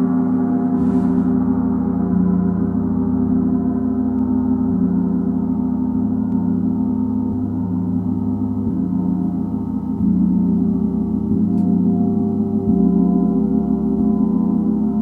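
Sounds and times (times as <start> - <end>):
gongs ringing: 0.0 - 15.0.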